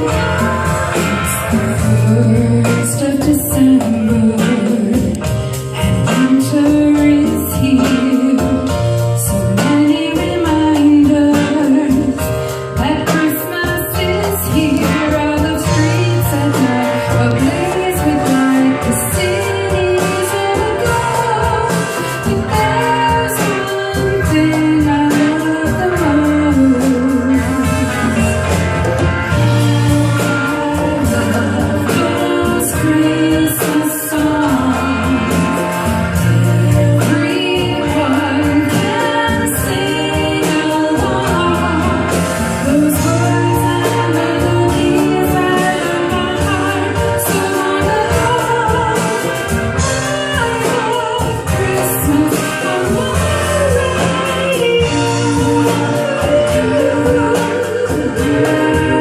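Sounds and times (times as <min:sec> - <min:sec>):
bass: 0:00.0 - 0:59.0
guitar: 0:00.0 - 0:59.0
person singing: 0:00.0 - 0:59.0
steady drum beat: 0:00.0 - 0:59.0.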